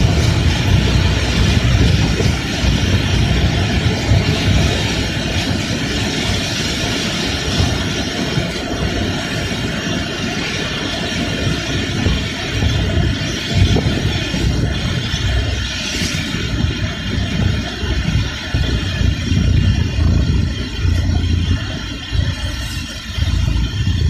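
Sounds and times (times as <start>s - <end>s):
rain and road spray hiss: 0.0s - 24.0s
vehicle rumble: 0.0s - 24.0s.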